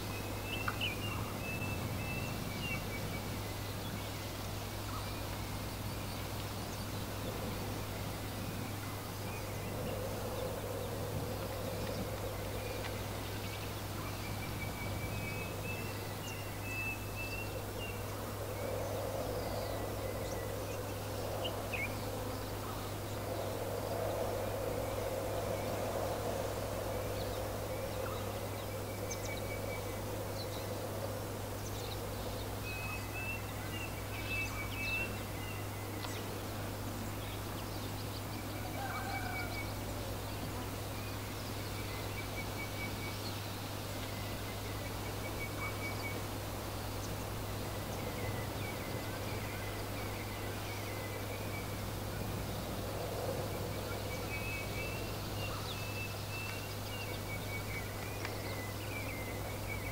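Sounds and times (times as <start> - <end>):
wind noise: 0.0 - 43.0, 43.8 - 55.6
small birds chirping: 0.0 - 59.9.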